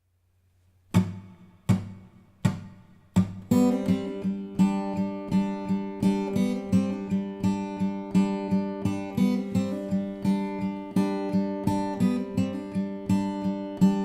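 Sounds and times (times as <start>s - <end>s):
acoustic guitar chords ringing: 0.9s - 14.0s
acoustic guitar strumming: 0.9s - 14.0s.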